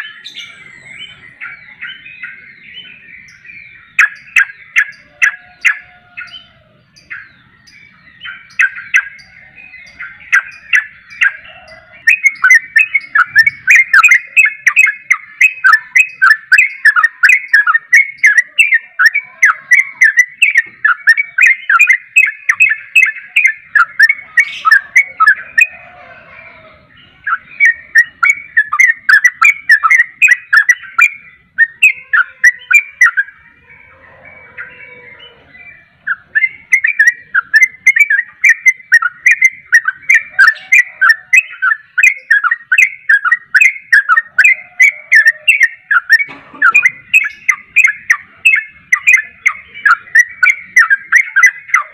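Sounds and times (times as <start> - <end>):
bulbul singing chattering notes: 0.0 - 26.0, 26.8 - 33.5, 34.6 - 51.9.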